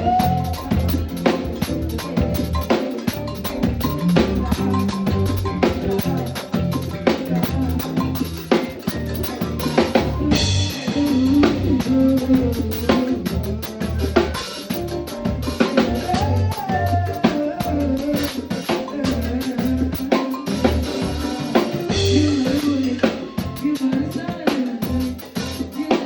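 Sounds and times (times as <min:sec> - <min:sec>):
bass line: 0:00.0 - 0:25.8
drum kit beat: 0:00.0 - 0:26.0.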